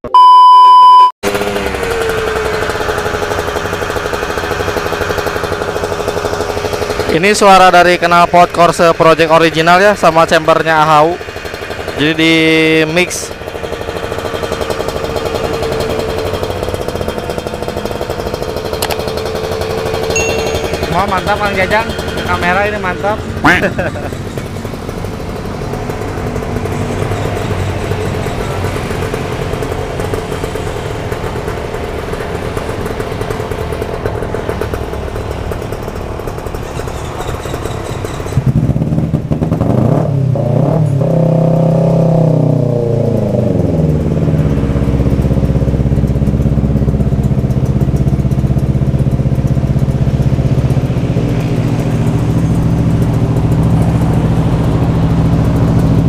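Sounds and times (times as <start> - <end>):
two-stroke motorcycle engine: 1.2 - 56.0.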